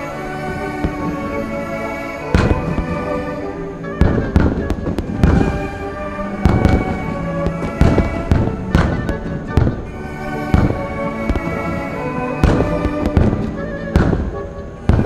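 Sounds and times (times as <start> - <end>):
orchestral music: 0.0 - 15.0
fireworks bangs: 0.5 - 1.6, 2.3 - 15.0.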